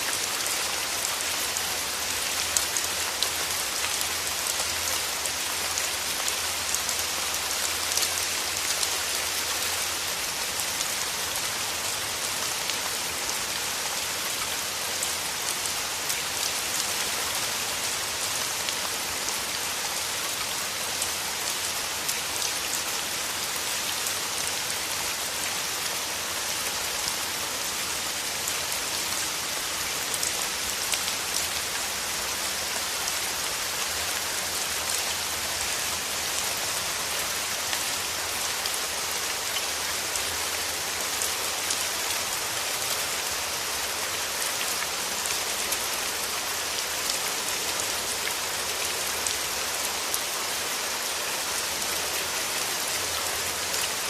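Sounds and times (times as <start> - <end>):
rain falling through trees: 0.0 - 54.0.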